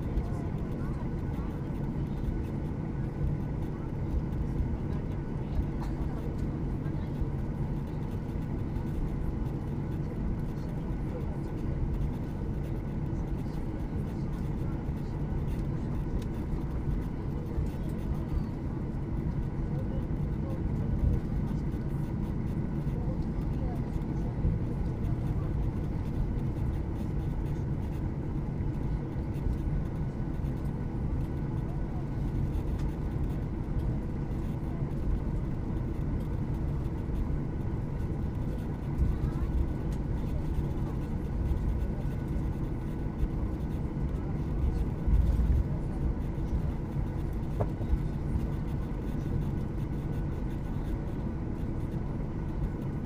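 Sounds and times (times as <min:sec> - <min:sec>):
airliner cabin rumble: 0:00.0 - 0:53.0
faint steady tones: 0:00.0 - 0:53.0.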